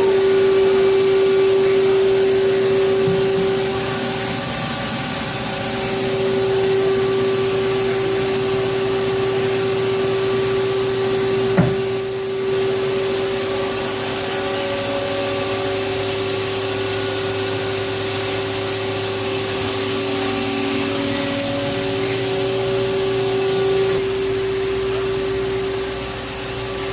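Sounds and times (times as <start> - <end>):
lathe whining: 0.0 - 26.9.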